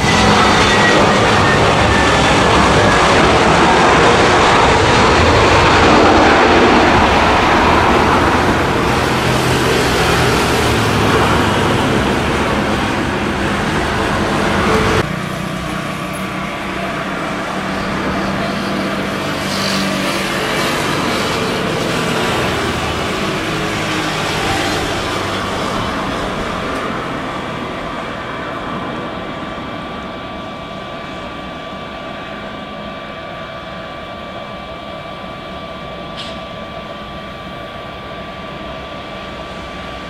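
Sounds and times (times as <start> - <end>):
loud jet engines on runway: 0.0 - 40.0
steady jet engine hum: 0.0 - 40.0.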